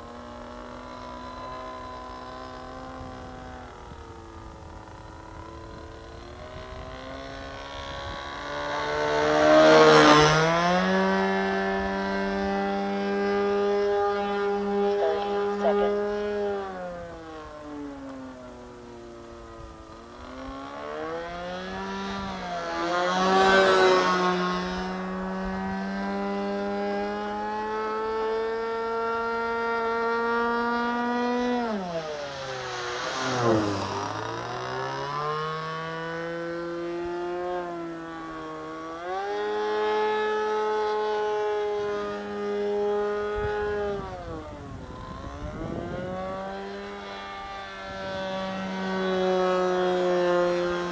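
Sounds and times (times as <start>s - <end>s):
model plane engine buzzing: 0.0s - 50.9s.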